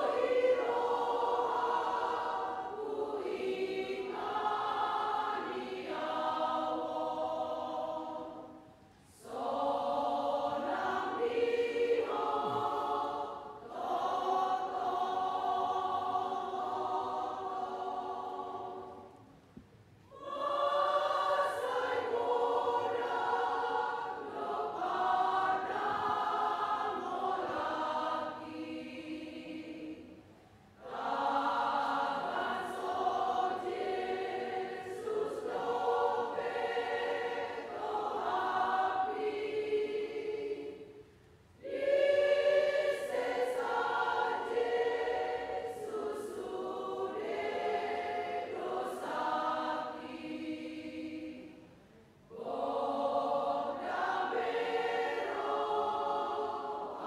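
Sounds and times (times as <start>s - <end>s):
women's choir singing a hymn: 0.0s - 57.0s.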